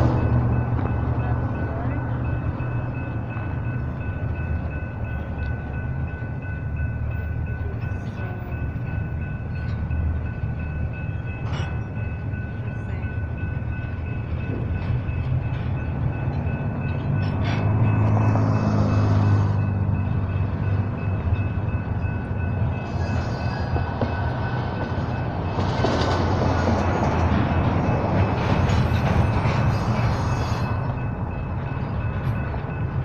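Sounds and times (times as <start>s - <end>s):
train cars rumbling on steel wheels: 0.0s - 33.0s.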